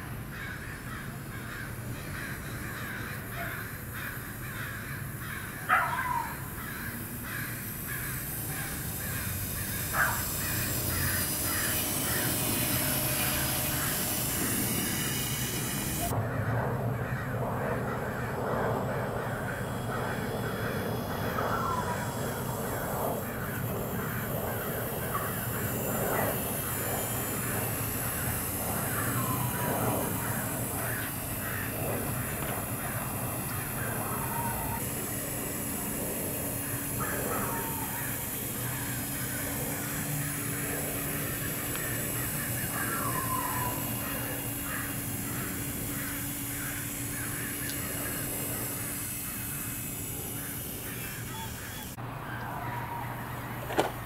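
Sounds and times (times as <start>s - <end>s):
birds calling: 0.2s - 54.0s.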